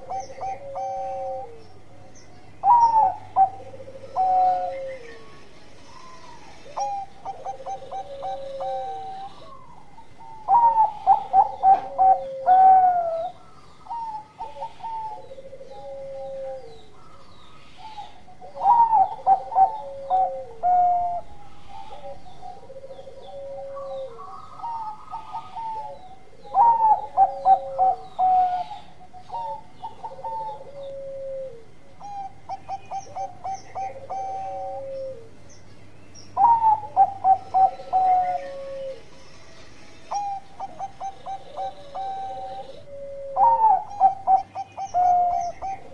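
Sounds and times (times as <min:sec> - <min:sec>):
dove cooing: 0:00.0 - 0:35.6, 0:36.2 - 0:45.9.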